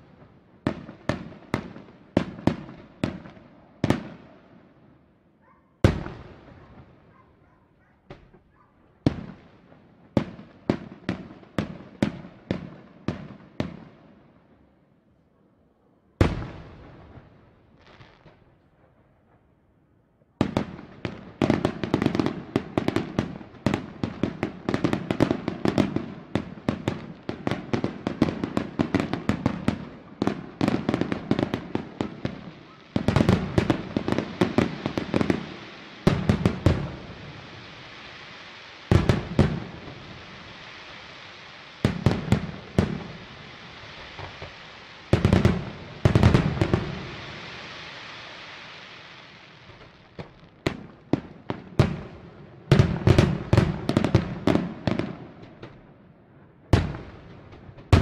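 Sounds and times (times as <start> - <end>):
fireworks bursting and crackling: 0.0 - 14.7, 16.2 - 19.1, 20.2 - 58.0
firework bangs: 5.8 - 13.9, 16.2 - 19.2, 20.4 - 55.9, 56.7 - 58.0.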